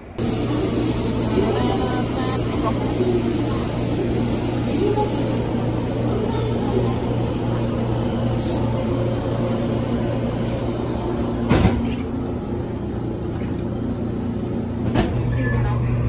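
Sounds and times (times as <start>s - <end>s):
train humming: 0.0s - 16.0s.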